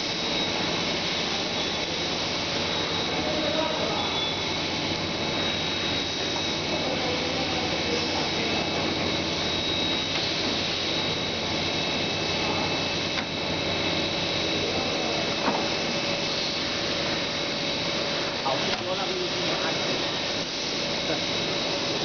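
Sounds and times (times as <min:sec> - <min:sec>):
high constant whine: 0:00.0 - 0:22.0
machine whirring: 0:00.0 - 0:22.0.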